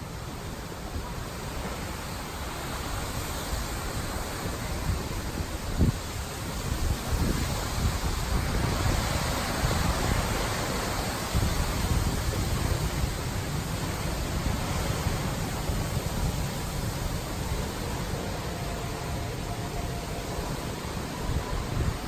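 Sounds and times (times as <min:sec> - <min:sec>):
strong wind gusting on microphone: 0:00.0 - 0:22.0.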